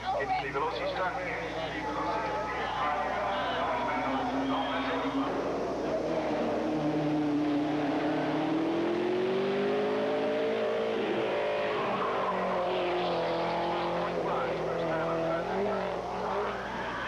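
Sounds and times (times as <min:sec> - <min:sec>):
race car engine accelerating: 0:01.8 - 0:17.0.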